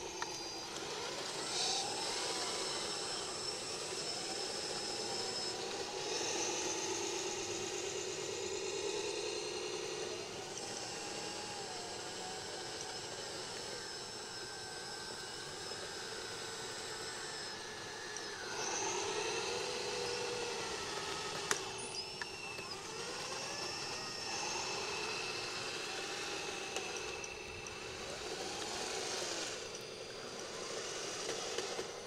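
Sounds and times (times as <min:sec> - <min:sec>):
toy loader motors whining: 0:00.0 - 0:32.0.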